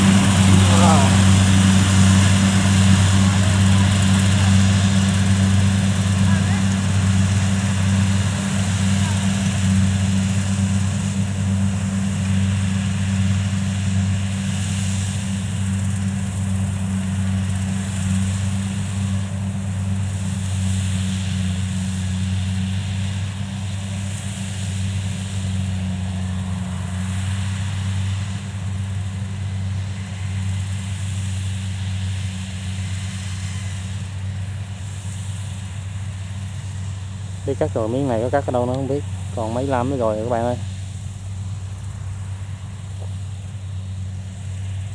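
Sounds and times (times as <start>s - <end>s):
combine harvester engine droning: 0.0s - 44.9s.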